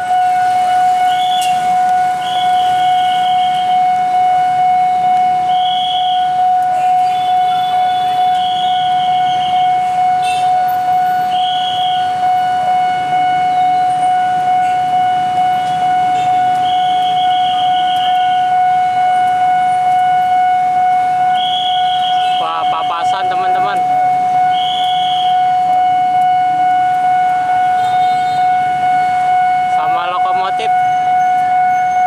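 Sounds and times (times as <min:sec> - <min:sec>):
level crossing pulsing alarm tone: 0:00.0 - 0:32.0.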